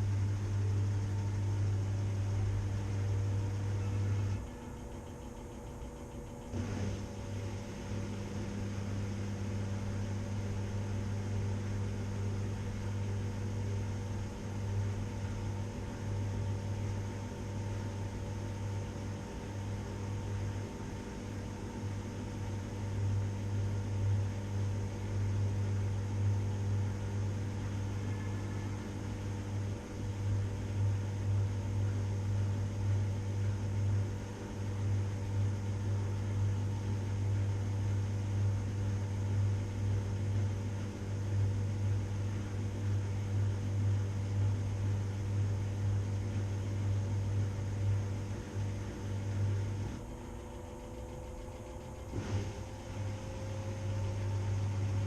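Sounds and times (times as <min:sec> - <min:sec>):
washing machine running: 0:00.0 - 0:55.0.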